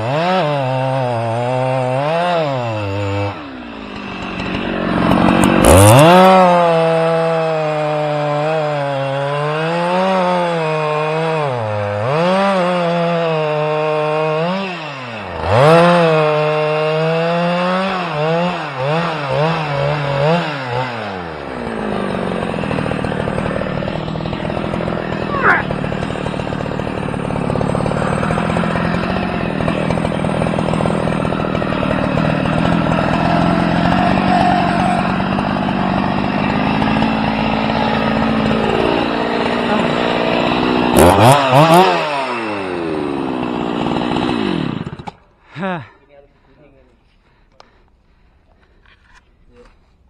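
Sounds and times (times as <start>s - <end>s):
small engine revving: 0.0s - 45.4s.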